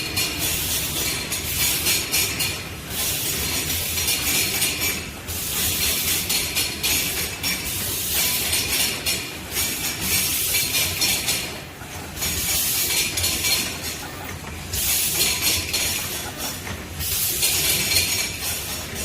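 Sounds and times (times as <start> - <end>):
packaging machine running: 0.0 - 19.0.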